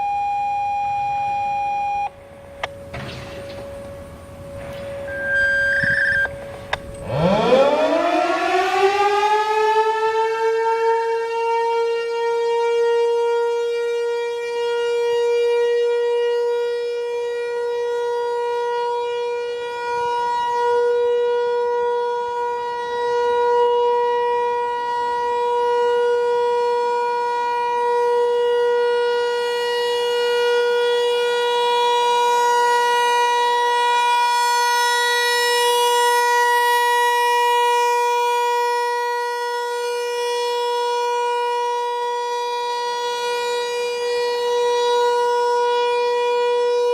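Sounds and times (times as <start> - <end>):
warning siren single tone: 0.0 - 46.9.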